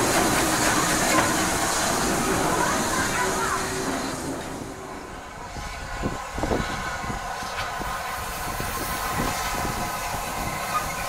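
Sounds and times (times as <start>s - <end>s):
steam locomotive hissing: 0.0s - 11.0s
train knocks and clanks: 0.0s - 11.0s.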